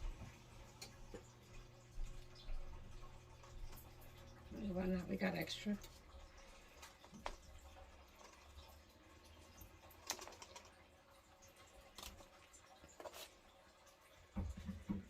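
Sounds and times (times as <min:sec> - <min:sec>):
faint kitchen clicks and taps: 0:00.0 - 0:15.0.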